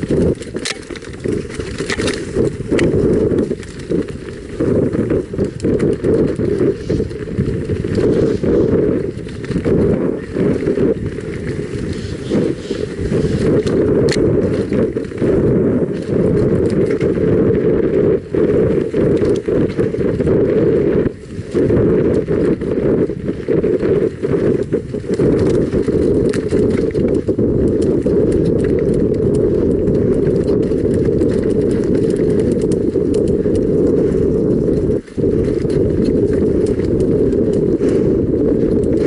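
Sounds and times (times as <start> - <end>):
bike clattering over bumps: 0.0 - 39.0
bike tyres rumbling on dirt: 0.0 - 39.0
wind buffeting microphone: 0.0 - 39.0.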